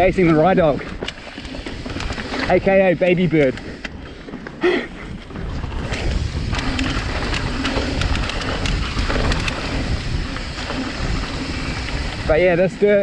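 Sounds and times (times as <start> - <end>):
bike rattling and clicking: 0.0 - 13.0
tyres rolling over dirt: 0.0 - 13.0
wind buffeting microphone: 0.0 - 13.0.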